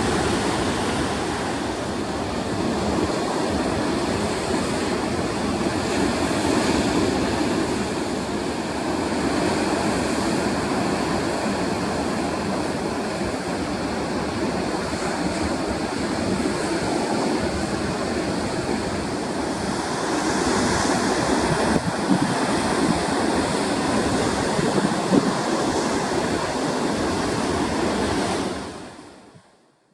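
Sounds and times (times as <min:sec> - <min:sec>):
heavy surf breaking: 0:00.0 - 0:29.0.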